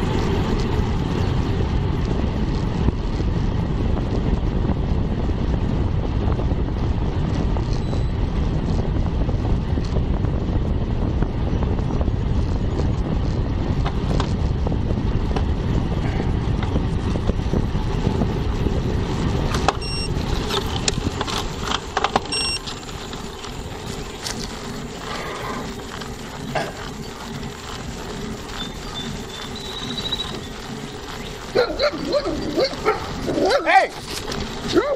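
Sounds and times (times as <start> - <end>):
bicycle mechanical clicks: 0.0 - 34.9
wind rushing over microphone: 0.0 - 34.9.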